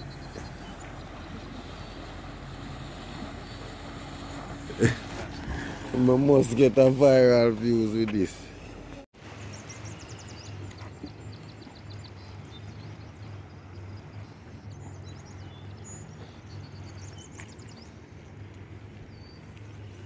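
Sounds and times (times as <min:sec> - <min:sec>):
small birds chirping: 0:00.0 - 0:06.3, 0:07.3 - 0:20.0.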